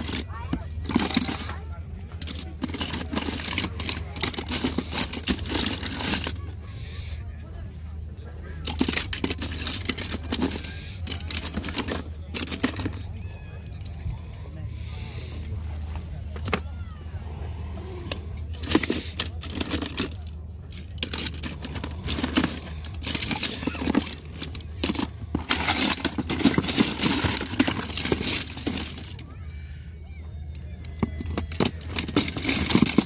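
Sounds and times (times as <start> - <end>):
metal toy cars clattering: 0.0 - 6.8, 8.3 - 14.4, 16.2 - 16.9, 17.8 - 33.0.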